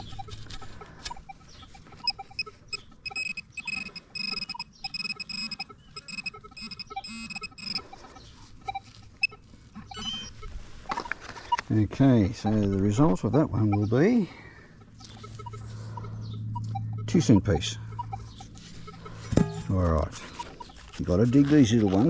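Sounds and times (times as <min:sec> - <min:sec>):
metal detector tones: 0:00.0 - 0:22.0.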